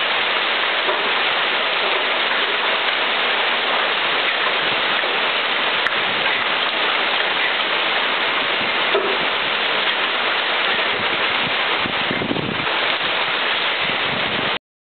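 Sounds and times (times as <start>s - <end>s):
heavy rain and hail pelting: 0.0s - 14.6s.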